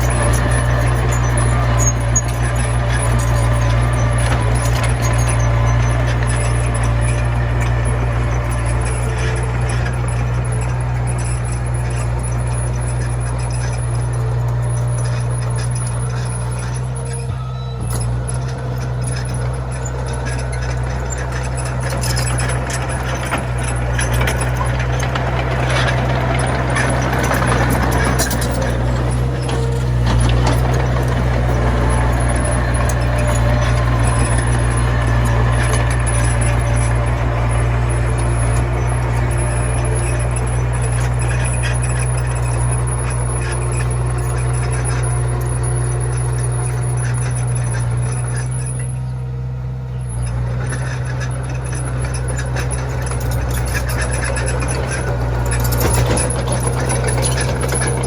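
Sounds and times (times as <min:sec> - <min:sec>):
machine clanks and knocks: 0:00.0 - 0:49.3, 0:50.0 - 0:58.0
bulldozer diesel engine running: 0:00.0 - 0:58.0.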